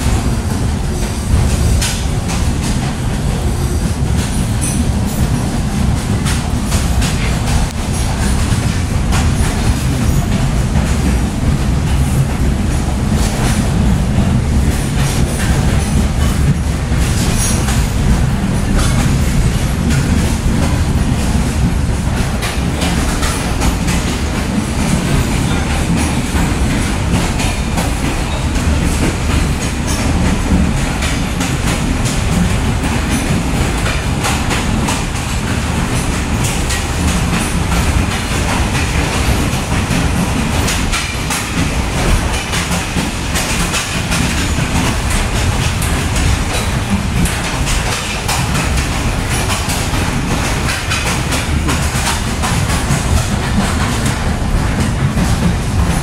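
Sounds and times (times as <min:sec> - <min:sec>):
railcar wheels rumbling on track: 0:00.0 - 0:56.0.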